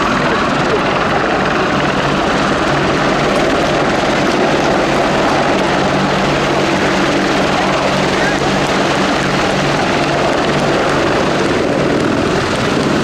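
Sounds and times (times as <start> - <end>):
helicopter hovering: 0.0 - 13.0.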